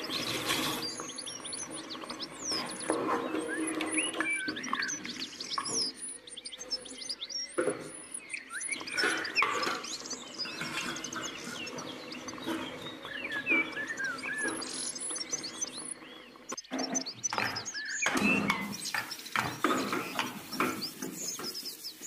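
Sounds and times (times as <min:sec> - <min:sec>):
birds chirping and twittering: 0:00.0 - 0:22.0
high bird pip: 0:00.0 - 0:22.0.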